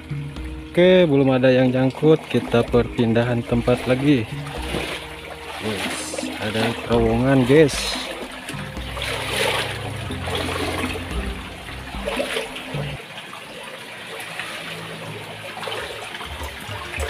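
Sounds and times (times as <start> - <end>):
water rushing through culvert: 0.0 - 17.0.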